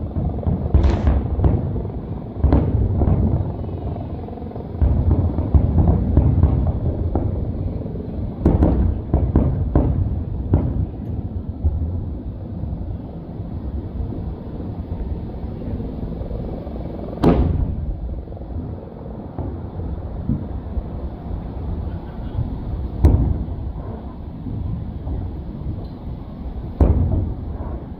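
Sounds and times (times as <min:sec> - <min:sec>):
fireworks booming: 0:00.0 - 0:04.2, 0:04.8 - 0:15.7, 0:17.2 - 0:27.9
fireworks sharp bangs and crackles: 0:00.0 - 0:27.9.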